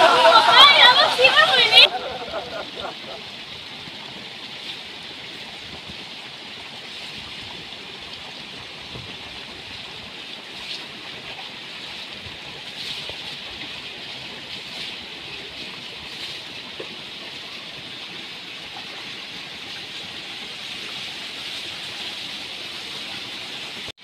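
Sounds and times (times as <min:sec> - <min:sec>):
mountain river rushing: 0:00.0 - 0:24.0.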